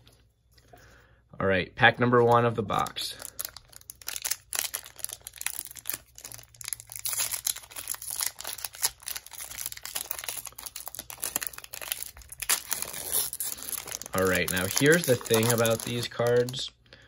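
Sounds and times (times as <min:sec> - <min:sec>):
foil wrapper crinkling: 0:02.7 - 0:16.7.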